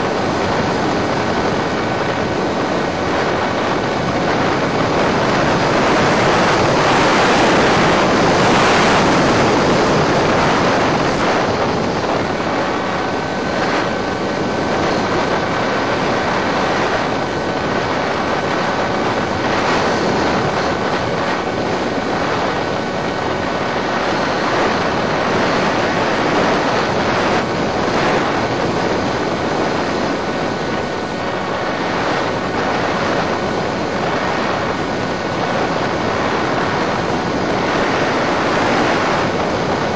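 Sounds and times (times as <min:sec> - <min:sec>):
electric motor and propeller whine: 0:00.0 - 0:39.9
wind rushing over airframe: 0:00.0 - 0:39.9.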